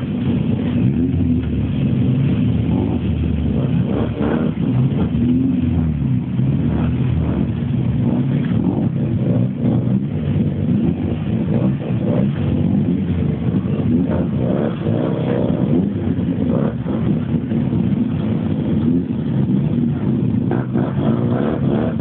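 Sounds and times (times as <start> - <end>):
rotary race car engines: 0.0 - 22.0.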